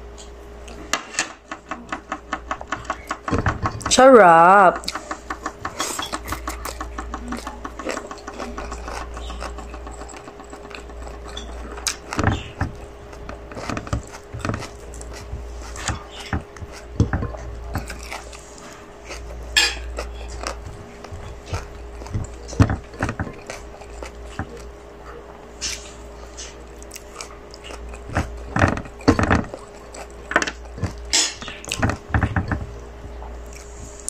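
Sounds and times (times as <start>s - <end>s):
person chewing: 4.8s - 34.0s.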